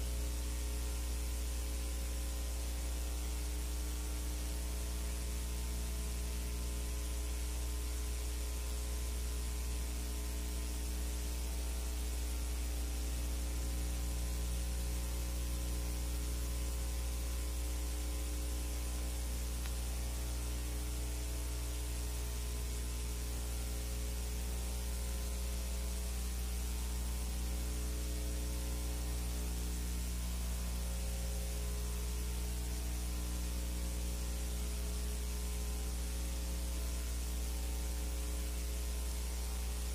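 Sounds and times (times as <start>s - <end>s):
electrical mains hum: 0.0s - 39.9s
steady hiss: 0.0s - 39.9s.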